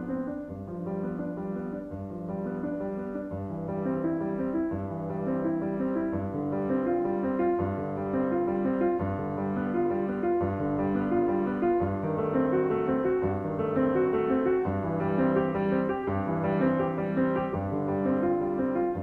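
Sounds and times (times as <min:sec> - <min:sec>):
background piano music: 0:00.0 - 0:19.0.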